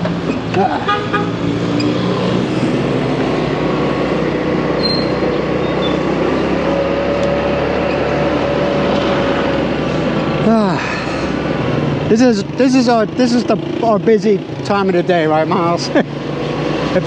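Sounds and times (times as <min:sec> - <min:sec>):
motorcycle engine drone: 0:00.0 - 0:17.0
road noise: 0:00.0 - 0:17.0.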